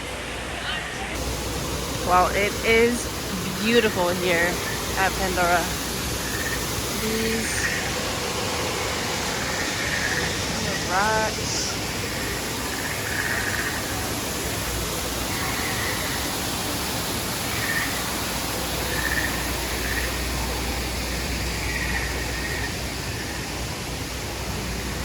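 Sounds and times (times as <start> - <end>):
distant voices: 0.0 - 25.0
steady rushing outdoor noise: 0.0 - 25.0.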